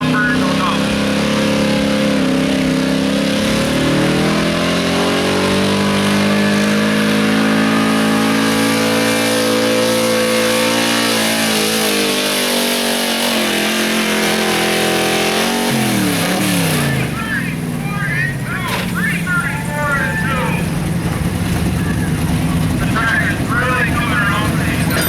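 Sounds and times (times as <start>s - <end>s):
truck engine revving high: 0.0s - 25.0s.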